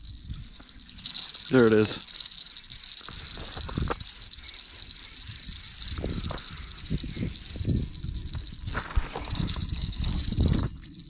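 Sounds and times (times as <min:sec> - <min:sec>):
fishing reel being cranked: 0:00.0 - 0:11.0.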